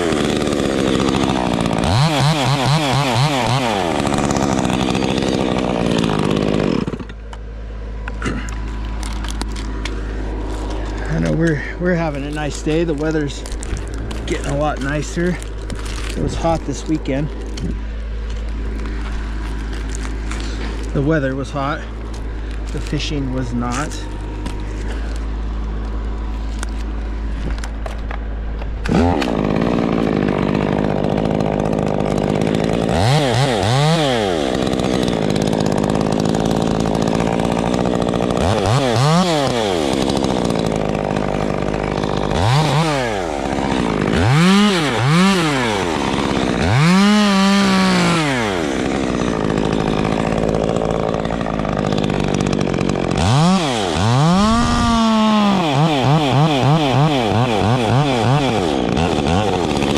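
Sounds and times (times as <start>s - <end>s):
chainsaw idling and revving: 0.0s - 59.9s.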